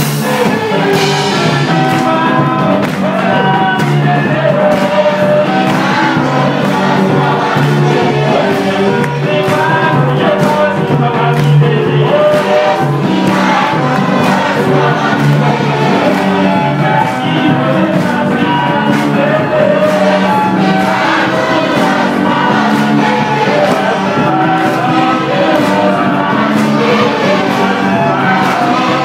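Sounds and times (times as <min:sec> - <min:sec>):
church band playing: 0:00.0 - 0:29.0
group singing gospel: 0:00.0 - 0:29.0
steady drum beat: 0:00.0 - 0:29.0.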